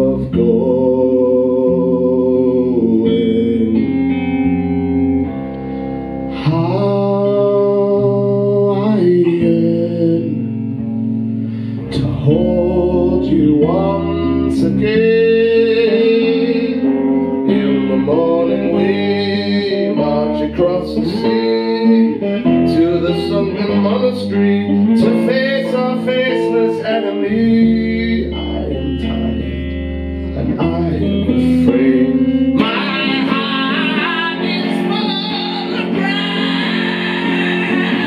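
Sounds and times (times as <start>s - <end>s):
man singing: 0.0s - 4.5s, 6.3s - 10.8s, 11.8s - 38.0s
electric guitar: 0.0s - 38.0s.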